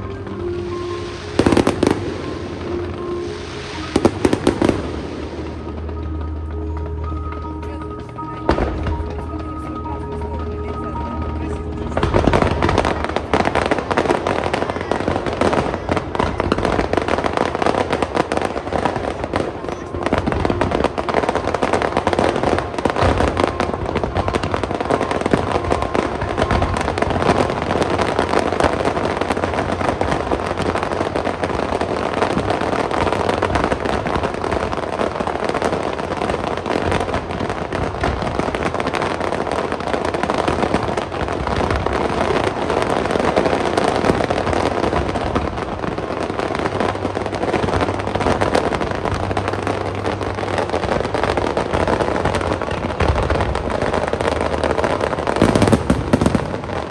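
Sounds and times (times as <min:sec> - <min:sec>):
fireworks crackling and banging: 0:00.0 - 0:56.9.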